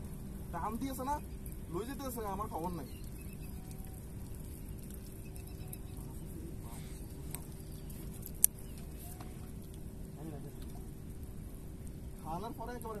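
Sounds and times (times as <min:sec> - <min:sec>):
faint constant hum: 0:00.0 - 0:13.0
low outdoor rumble: 0:00.0 - 0:13.0.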